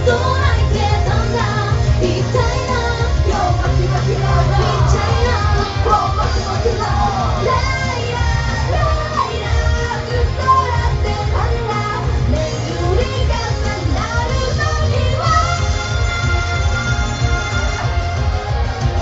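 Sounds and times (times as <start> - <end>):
women singing into microphones: 0.0 - 17.9
backing track with heavy bass: 0.0 - 19.0.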